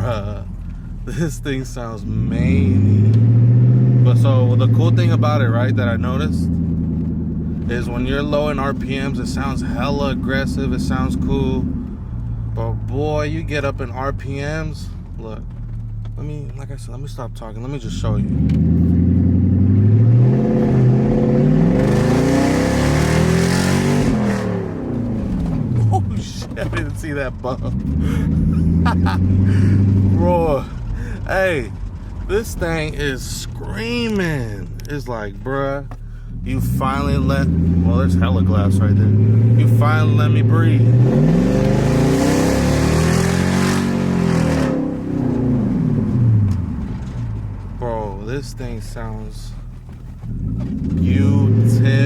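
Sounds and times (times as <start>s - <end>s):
car engine accelerating hard: 0.0s - 52.0s.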